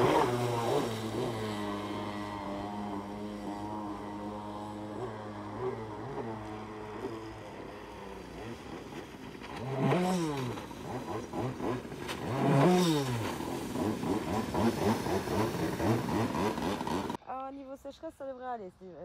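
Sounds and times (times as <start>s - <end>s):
motorized surfboard engine buzzing: 0.0s - 17.2s.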